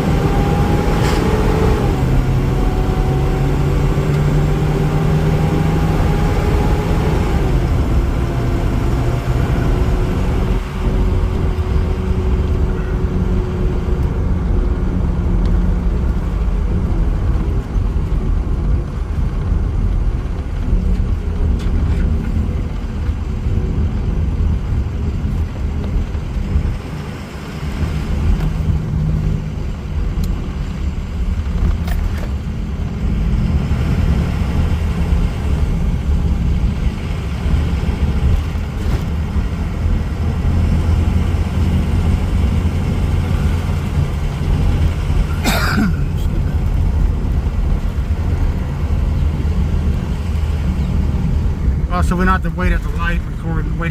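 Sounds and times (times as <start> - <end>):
diesel engine rumble: 0.0 - 53.9
road noise: 0.0 - 53.9.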